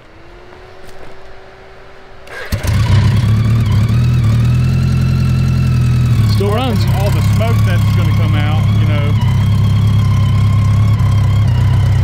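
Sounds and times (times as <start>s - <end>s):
motorcycle engine idling: 2.3s - 12.0s.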